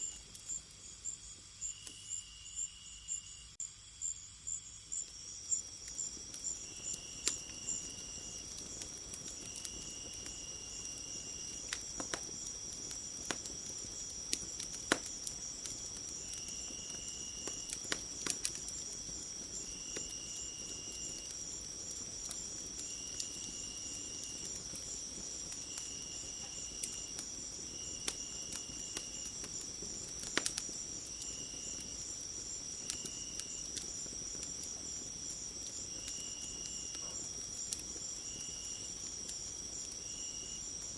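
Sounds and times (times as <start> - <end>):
wood fire popping and crackling: 0.0 - 1.4, 5.2 - 40.9
crickets trilling: 0.0 - 40.9
low insect call bursts: 0.0 - 40.9.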